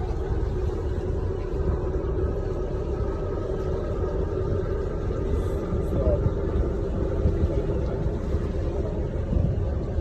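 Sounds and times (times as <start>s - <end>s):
motorboat engine rumbling: 0.0s - 10.0s.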